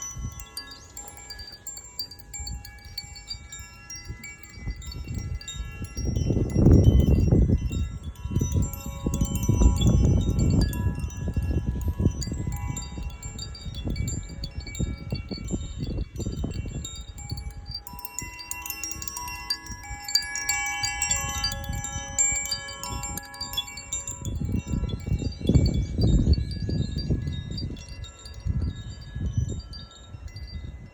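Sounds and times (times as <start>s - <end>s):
wind chime ringing: 0.0s - 30.9s.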